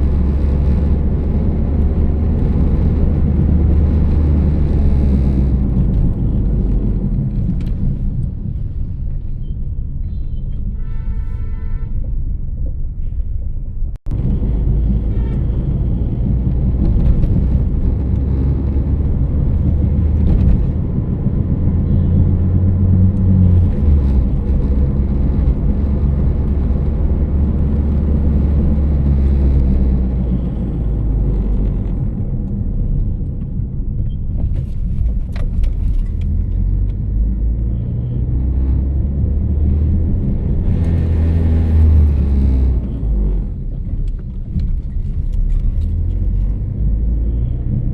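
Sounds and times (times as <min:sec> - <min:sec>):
low humming rumble: 0:00.0 - 0:47.9.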